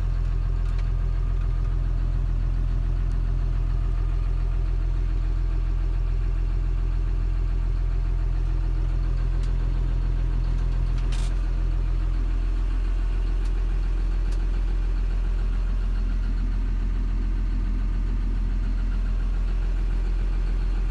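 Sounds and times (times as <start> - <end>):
tractor diesel engine idling: 0.0 - 20.9.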